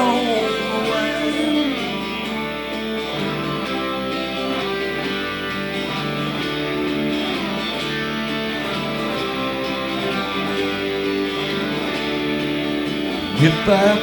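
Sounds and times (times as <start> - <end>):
guitars strumming and picking: 0.0 - 14.0.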